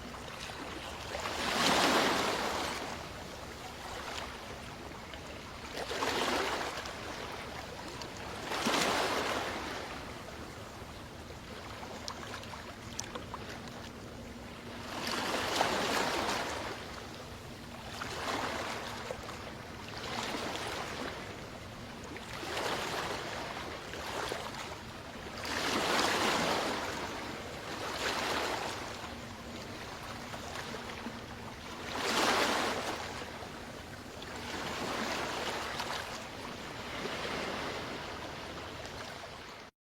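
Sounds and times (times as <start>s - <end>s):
ocean waves breaking on beach: 0.0s - 10.6s, 14.3s - 39.6s.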